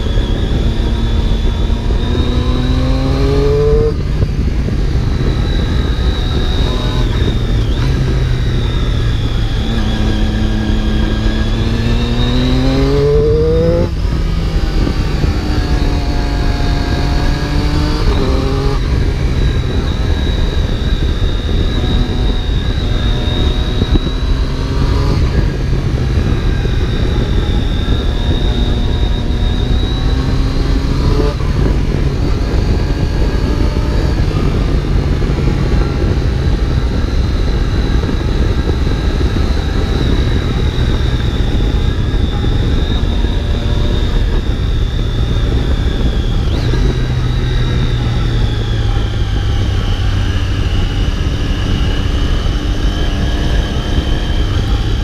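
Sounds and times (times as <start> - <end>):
motorcycle engine revving: 0.0 - 55.0
wind noise rushing: 0.0 - 55.0.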